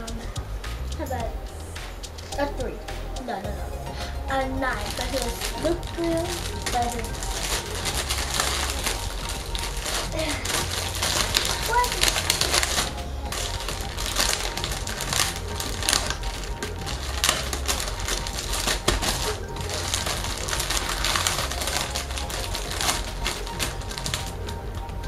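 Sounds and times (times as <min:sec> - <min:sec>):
plastic wrapper crinkling: 0:04.3 - 0:25.0.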